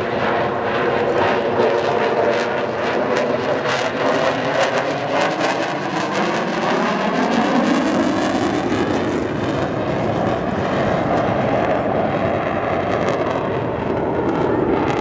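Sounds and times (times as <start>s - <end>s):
fighter jet engine roaring: 0.0s - 15.0s.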